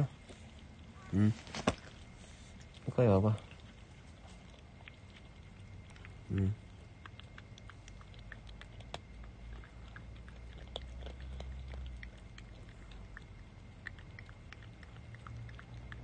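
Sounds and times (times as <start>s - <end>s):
cat licking and smacking: 0.0s - 16.0s.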